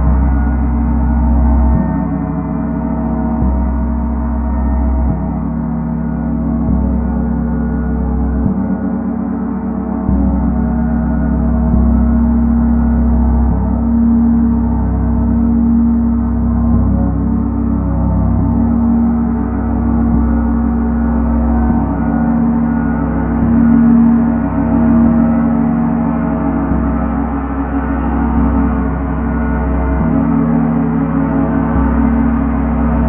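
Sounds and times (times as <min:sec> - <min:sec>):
ambient drone music: 0:00.0 - 0:33.0.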